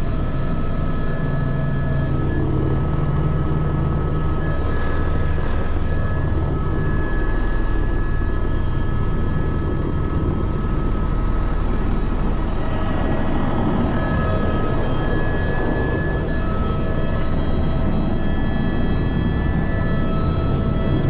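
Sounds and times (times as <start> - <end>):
helicopter drone: 0.0 - 21.0
high whine: 0.0 - 21.0.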